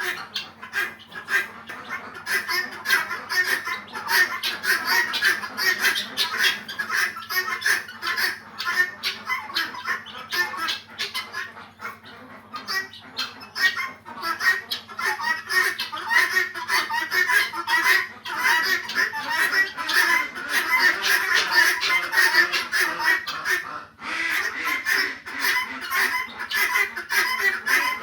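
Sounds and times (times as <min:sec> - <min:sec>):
guineafowl squawking: 0:00.0 - 0:28.0.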